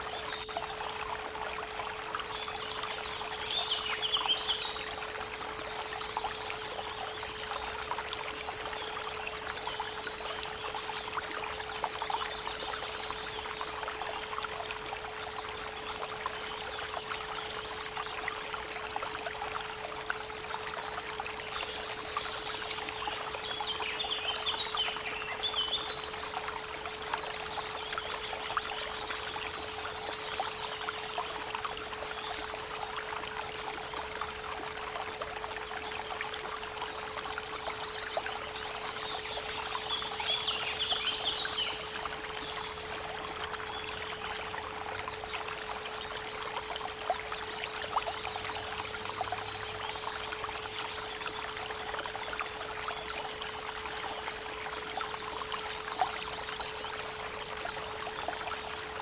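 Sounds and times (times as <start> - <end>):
babbling creek: 0.0 - 59.0
songbirds chirping: 0.0 - 59.0.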